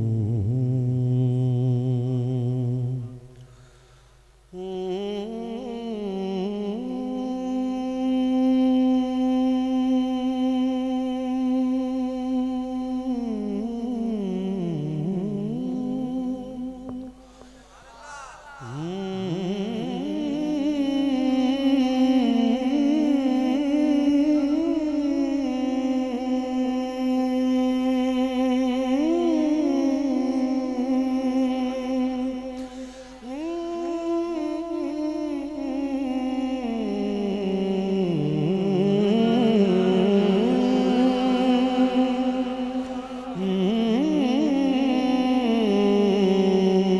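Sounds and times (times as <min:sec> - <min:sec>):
man singing over a pa: 0:04.5 - 0:46.9.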